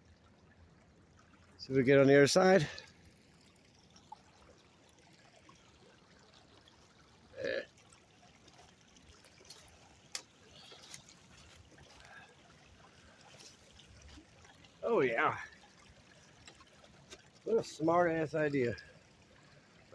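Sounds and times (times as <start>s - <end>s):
river water trickling: 0.0s - 19.9s.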